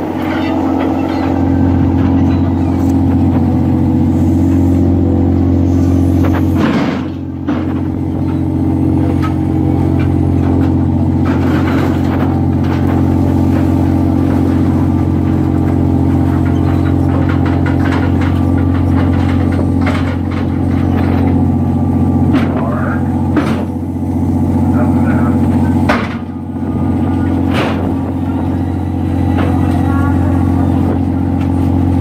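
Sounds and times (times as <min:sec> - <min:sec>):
boat engine drone: 0:00.0 - 0:32.0.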